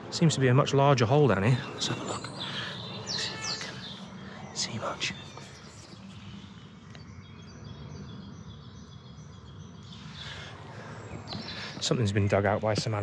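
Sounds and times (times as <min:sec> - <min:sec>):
faint bird calls: 0:01.4 - 0:12.0.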